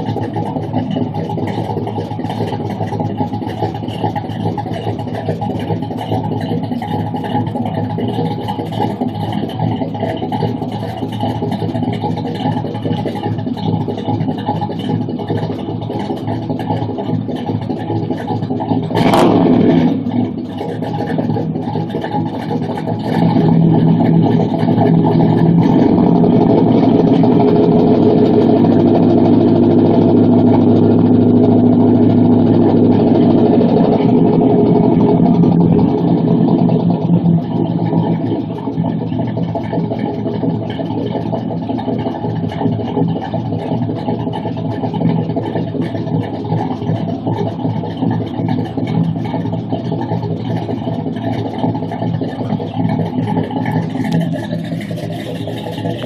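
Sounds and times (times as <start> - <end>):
engine idling with choppy lope: 0.0 - 56.0
engine throttle blip: 0.0 - 56.0.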